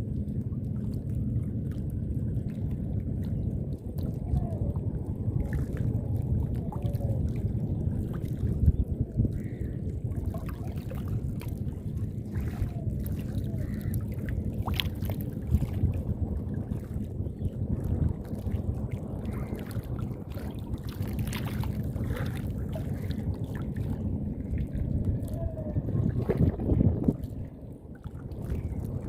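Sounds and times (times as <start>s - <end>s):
small clicks and splashes: 0.0s - 17.1s, 17.8s - 29.0s
river rumble: 0.0s - 29.0s.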